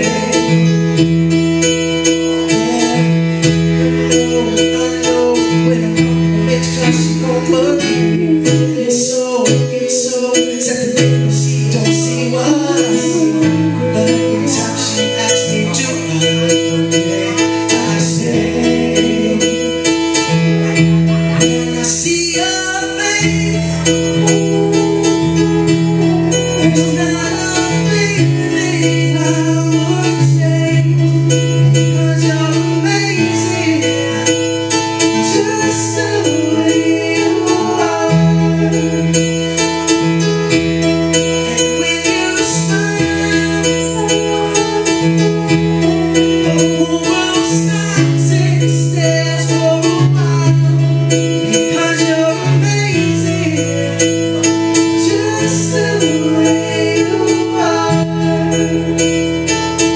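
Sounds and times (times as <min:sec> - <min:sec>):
instrumental accompaniment: 0:00.0 - 0:59.9
vocal group singing in harmony: 0:02.4 - 0:20.4, 0:21.3 - 0:40.2, 0:41.4 - 0:59.9.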